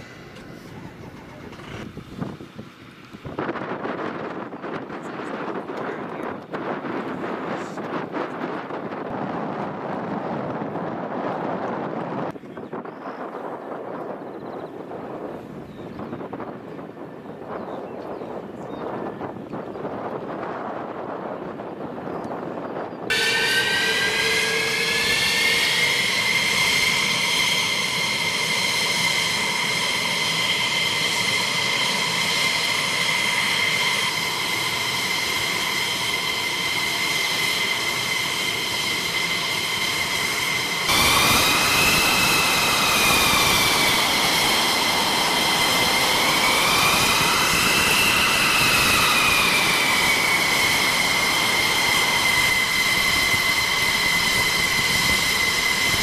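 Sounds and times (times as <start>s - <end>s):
jet engine idling whine: 0.0s - 56.0s.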